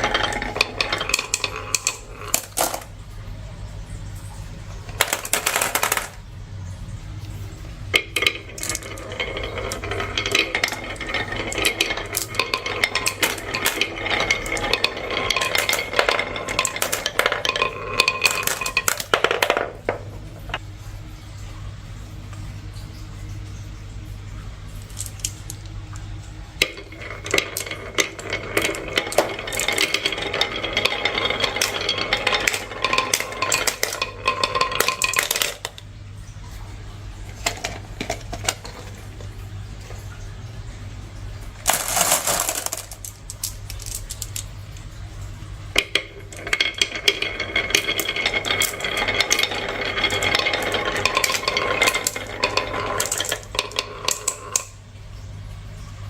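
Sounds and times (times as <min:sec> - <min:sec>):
marbles rolling and clattering: 0:00.0 - 0:20.6, 0:24.5 - 0:55.8
low steady hum: 0:00.0 - 0:56.0.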